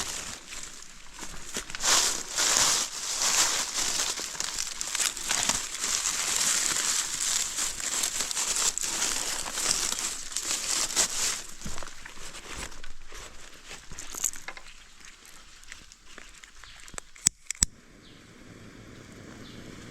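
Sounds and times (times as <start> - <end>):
leaves and brush rustling: 0.0 - 19.9.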